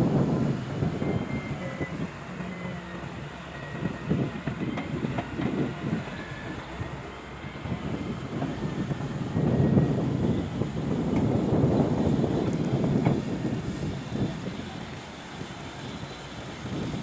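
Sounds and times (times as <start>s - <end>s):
excavator diesel engine rumble: 0.0s - 17.0s.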